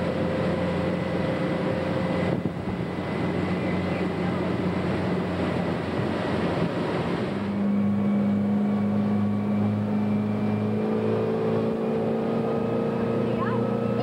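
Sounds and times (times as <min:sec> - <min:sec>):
motorboat engine humming: 0:00.0 - 0:14.0
water rushing: 0:00.0 - 0:14.0
wind: 0:00.0 - 0:14.0.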